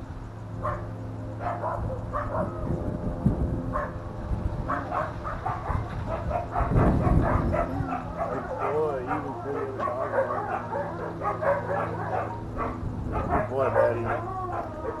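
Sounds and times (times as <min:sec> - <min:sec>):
dogs barking: 0:00.6 - 0:02.8, 0:03.7 - 0:04.0, 0:04.6 - 0:15.0.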